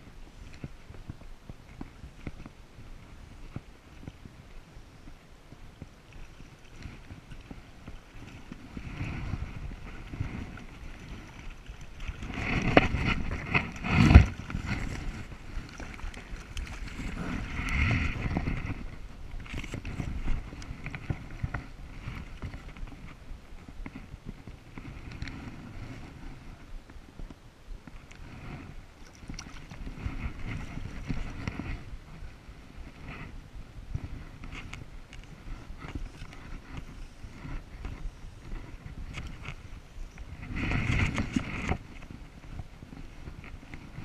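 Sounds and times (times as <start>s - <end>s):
wind on microphone: 0.0s - 44.0s.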